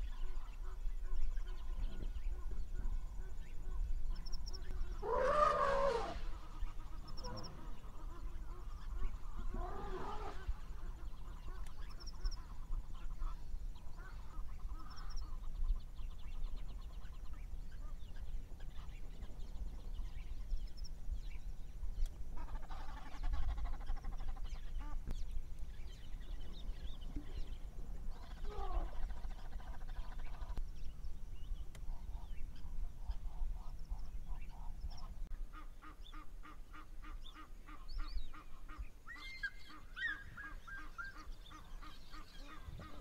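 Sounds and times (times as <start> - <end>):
wild birds calling: 0.0 - 21.4, 22.3 - 43.0.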